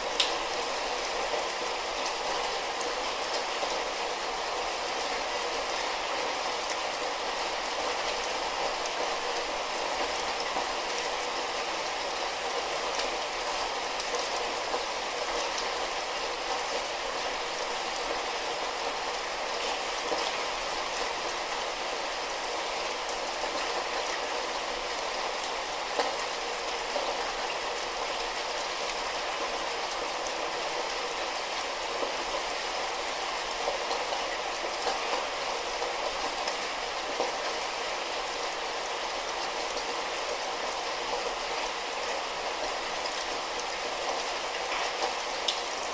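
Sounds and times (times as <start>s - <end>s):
light rain hissing: 0.0s - 45.9s
raindrops pattering on a surface: 0.0s - 45.9s.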